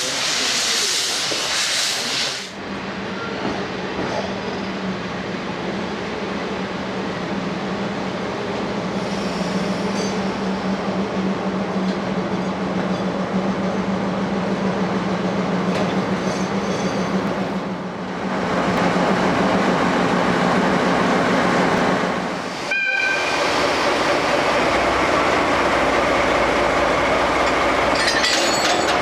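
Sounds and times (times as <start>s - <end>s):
train rumbling and rattling: 0.0s - 29.0s.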